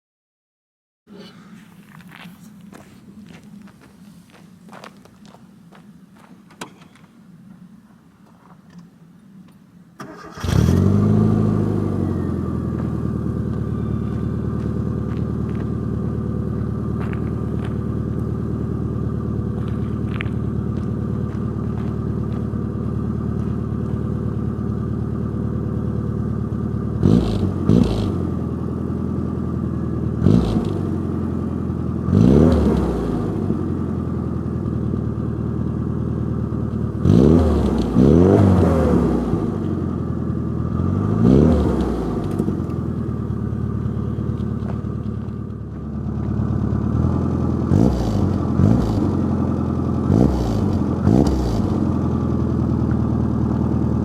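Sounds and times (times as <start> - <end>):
car engine idling: 1.4 - 54.0
engine throttle blips: 10.0 - 54.0.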